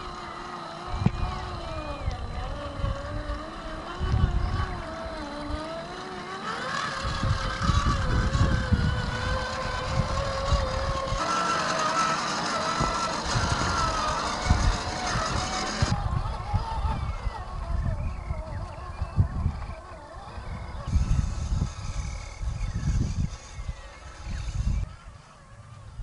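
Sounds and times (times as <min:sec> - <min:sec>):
electric motor whining: 0:00.0 - 0:26.0
wind rumble on microphone: 0:00.0 - 0:26.0.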